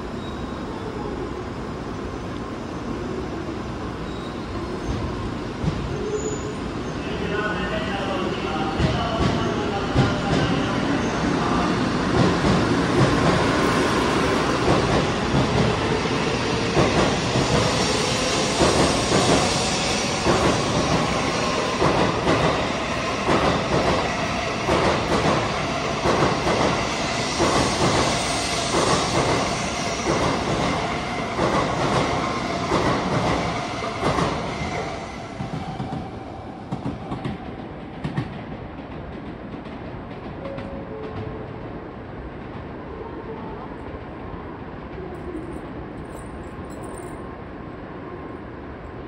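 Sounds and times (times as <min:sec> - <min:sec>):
train wheels rumbling on rail: 0:01.6 - 0:47.4.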